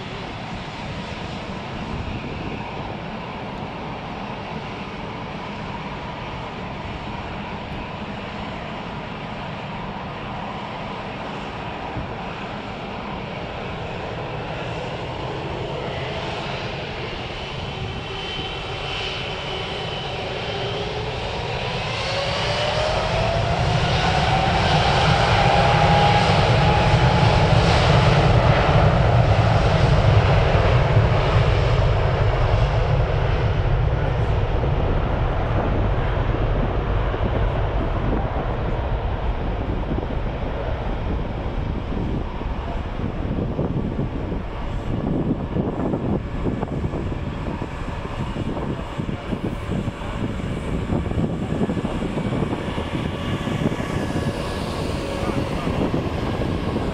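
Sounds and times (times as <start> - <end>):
heavy low rumble of jet: 0.0 - 56.9
jet engines spooling up: 0.0 - 56.9.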